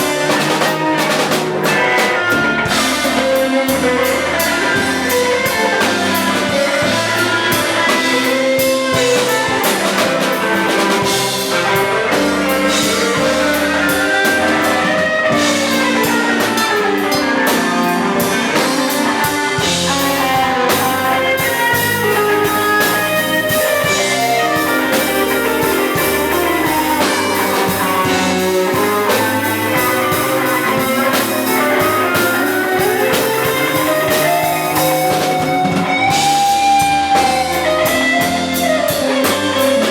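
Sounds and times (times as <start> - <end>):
drum kit: 0.0 - 39.9
guitar melody: 0.0 - 39.9.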